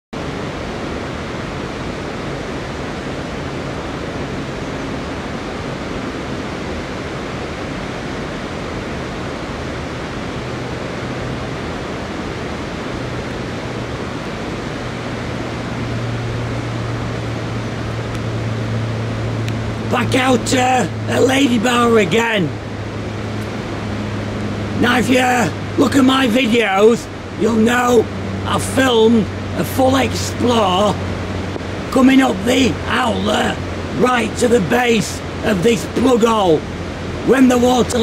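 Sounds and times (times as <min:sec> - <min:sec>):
low steady hum: 0:00.2 - 0:38.0
water rushing down overflow shaft: 0:00.2 - 0:38.0.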